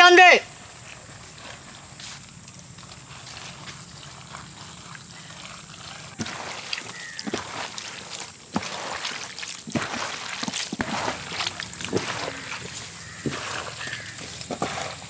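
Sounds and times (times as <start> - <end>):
squid squelching mixed by hand: 0.6 - 15.0.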